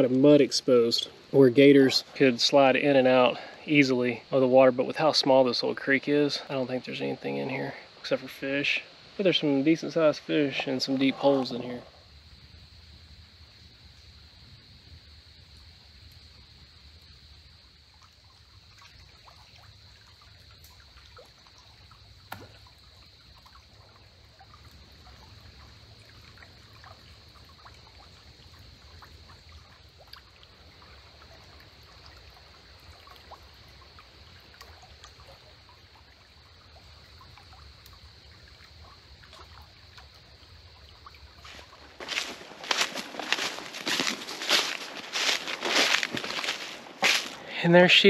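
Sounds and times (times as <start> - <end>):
creek trickling and lapping: 0.0 - 48.0
faint high-pitched hiss: 0.0 - 48.0
small water ticks: 8.9 - 47.6.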